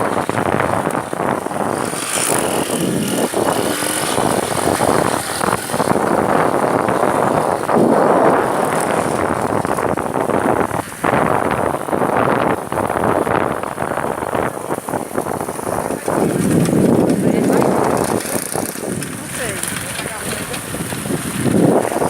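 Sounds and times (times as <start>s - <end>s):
motorcycle engine running: 0.0s - 22.0s
wind on microphone: 0.0s - 22.0s.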